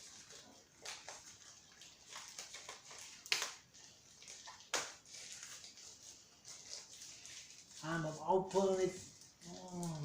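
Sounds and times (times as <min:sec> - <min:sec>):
plastic wrapping crinkling: 0:00.0 - 0:10.0
sharp plastic crackles: 0:00.0 - 0:10.0.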